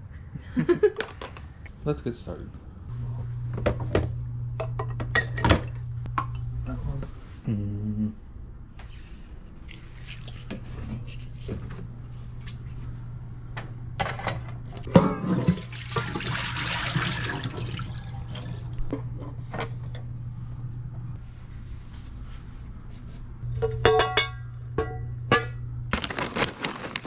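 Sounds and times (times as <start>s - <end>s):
steady low hum: 0.0s - 15.8s, 17.8s - 26.0s.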